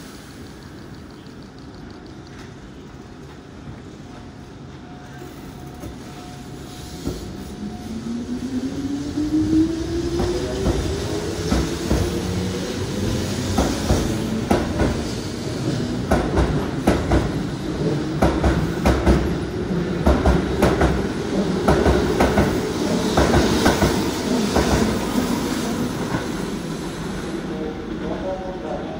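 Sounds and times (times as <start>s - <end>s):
electric train rumble: 0.0s - 28.9s.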